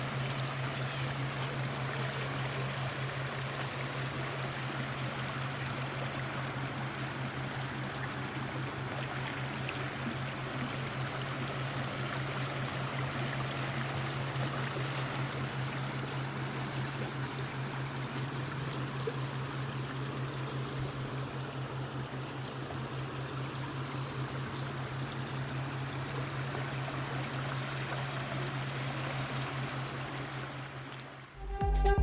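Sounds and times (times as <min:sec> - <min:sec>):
water rushing: 0:00.0 - 0:31.6.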